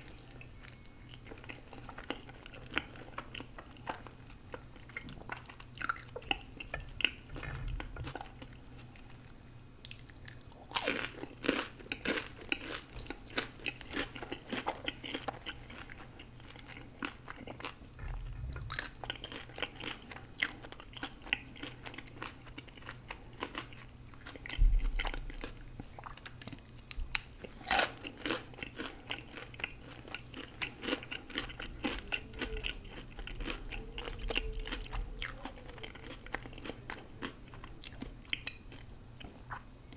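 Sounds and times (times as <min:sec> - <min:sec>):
person chewing and crunching: 0:00.0 - 0:09.2, 0:09.8 - 0:39.7.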